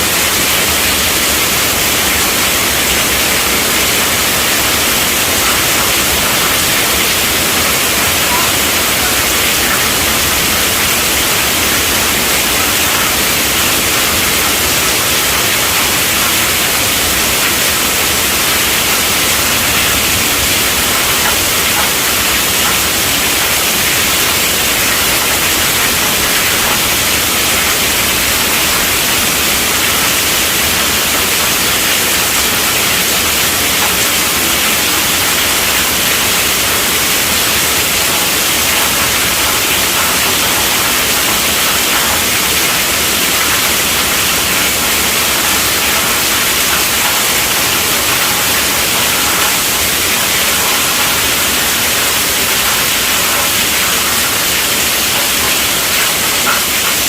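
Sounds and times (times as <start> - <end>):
heavy rain on a tent: 0.0 - 57.0.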